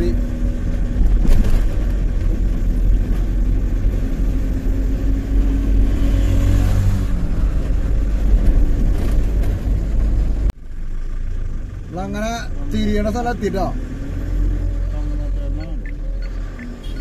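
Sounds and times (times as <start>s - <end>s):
diesel truck engine rumbling: 0.0s - 17.0s
road noise: 0.0s - 17.0s.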